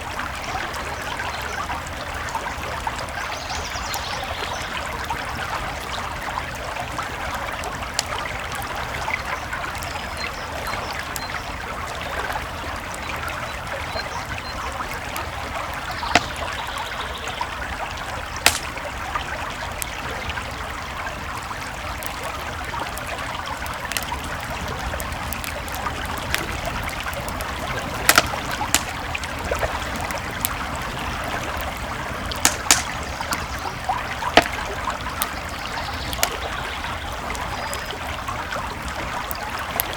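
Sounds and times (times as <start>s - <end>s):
campfire crackling and popping: 0.0s - 39.9s
creek flowing: 0.0s - 39.9s.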